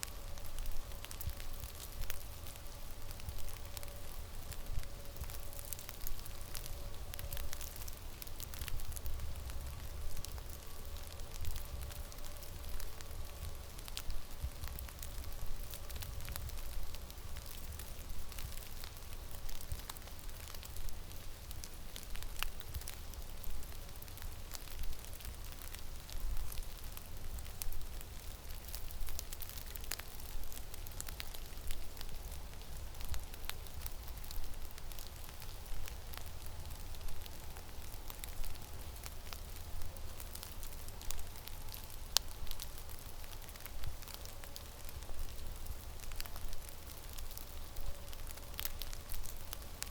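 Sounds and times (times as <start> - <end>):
faint steady hum: 0.0 - 49.9
small sharp crackles: 0.0 - 49.9.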